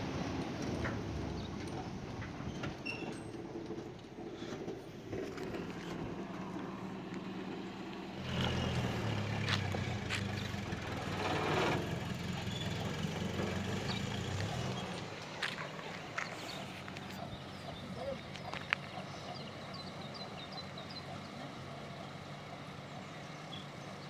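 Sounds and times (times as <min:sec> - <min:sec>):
motor engine running: 0:03.8 - 0:24.0.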